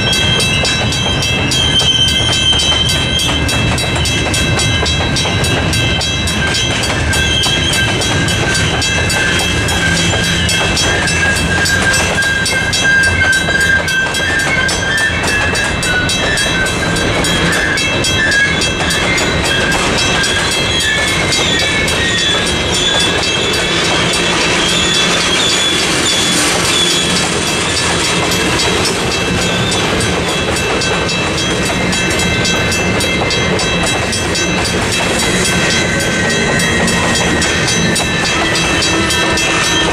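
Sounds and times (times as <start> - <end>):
mechanical crossing bell ringing: 0.0 - 39.9
train wheels clacking over rail joints: 0.0 - 39.9.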